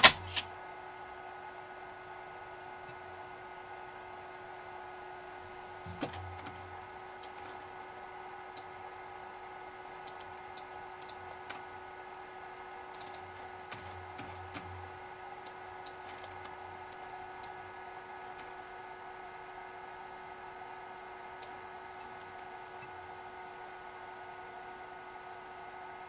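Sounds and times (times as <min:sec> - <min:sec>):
low drive whir: 0:00.0 - 0:26.0.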